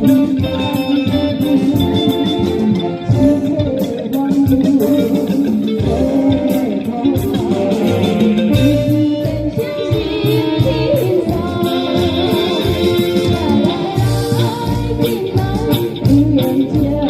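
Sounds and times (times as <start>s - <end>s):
guitar-led band music: 0.0s - 17.0s.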